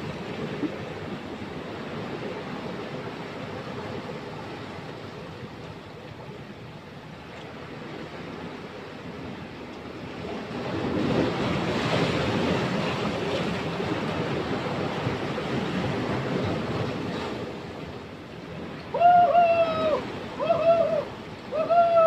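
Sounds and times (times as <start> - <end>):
waves breaking on rocks: 0.0 - 22.0.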